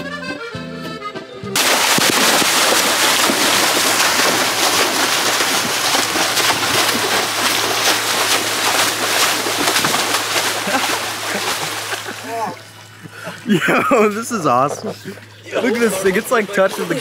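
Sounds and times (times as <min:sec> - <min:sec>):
steady low hum: 0:01.6 - 0:17.0
water splashing and sloshing: 0:01.6 - 0:17.0.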